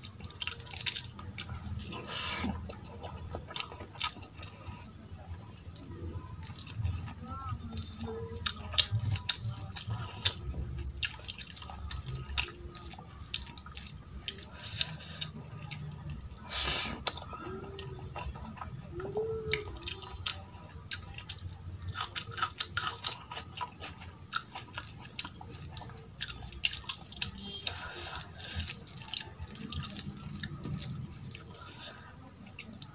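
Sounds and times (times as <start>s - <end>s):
wet chewing with lip smacks: 0.1s - 32.9s.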